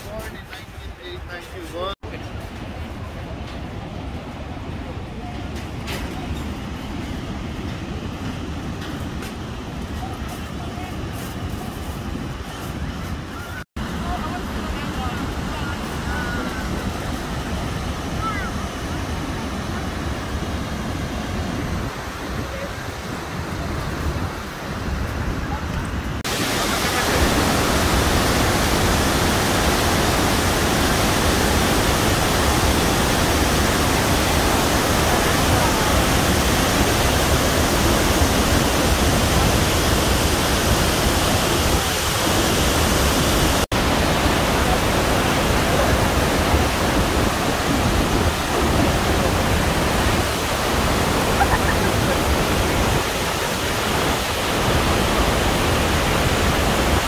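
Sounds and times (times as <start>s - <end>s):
waterfall rushing: 11.0s - 57.0s.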